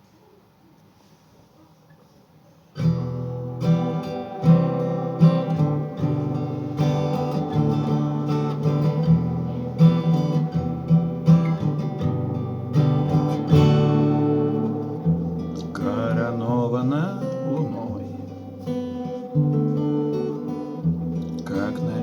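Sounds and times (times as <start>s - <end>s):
acoustic guitar chords: 2.8s - 22.0s.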